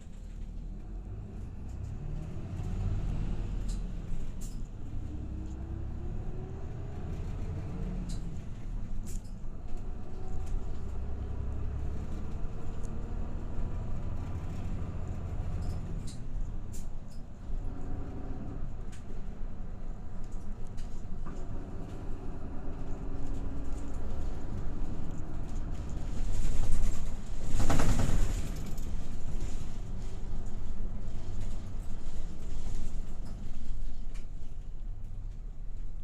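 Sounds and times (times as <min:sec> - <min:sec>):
bus diesel engine rumble: 0:00.0 - 0:36.0.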